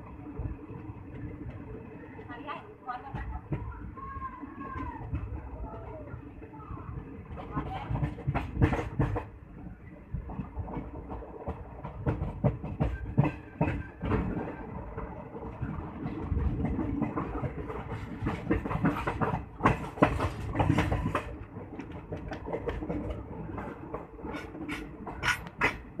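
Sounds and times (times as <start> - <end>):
train rumbling: 0.0 - 26.0
wheels clacking on track: 0.0 - 26.0.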